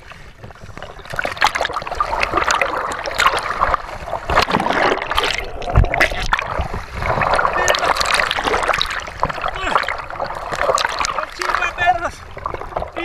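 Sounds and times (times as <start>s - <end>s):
river water splashing and gurgling: 0.0s - 13.0s.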